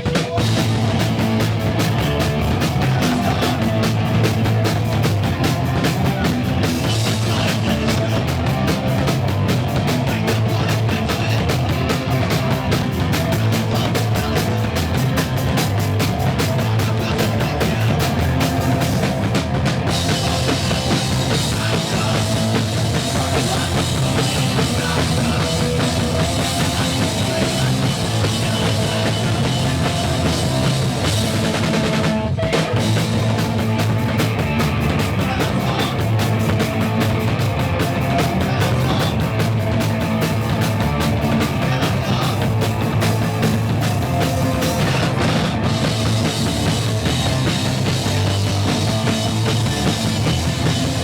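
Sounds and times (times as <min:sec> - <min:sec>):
drum kit pounding: 0:00.0 - 0:51.0
punk rock band playing: 0:00.0 - 0:51.0.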